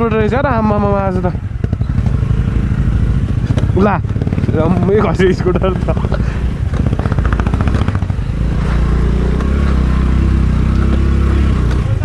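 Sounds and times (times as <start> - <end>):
scooter engine running: 0.1 - 12.0.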